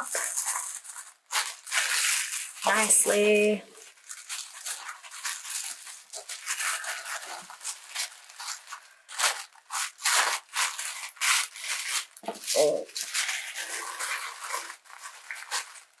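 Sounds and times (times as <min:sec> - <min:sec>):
tissue paper rustling: 0:00.0 - 0:16.0.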